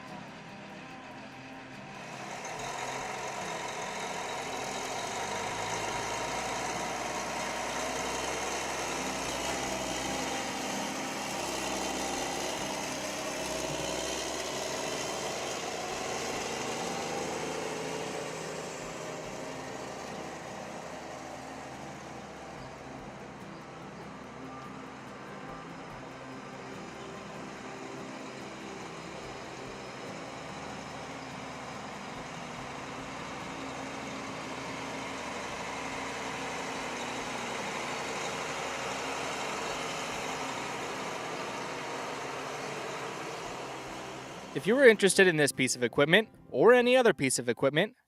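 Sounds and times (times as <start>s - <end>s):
tractor diesel engine running: 0.0s - 47.2s.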